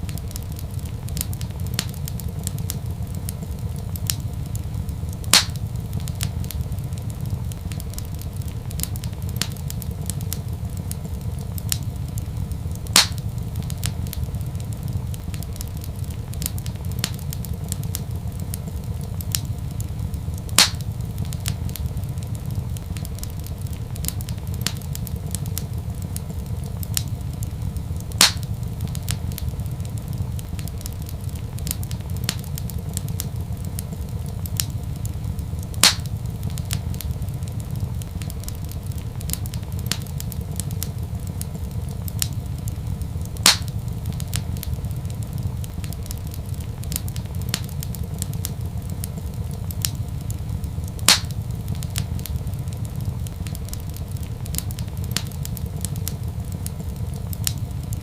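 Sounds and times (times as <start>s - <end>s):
loud fire pops: 0.0s - 58.0s
low fire rumble: 0.0s - 58.0s
wood fire crackling: 0.0s - 58.0s.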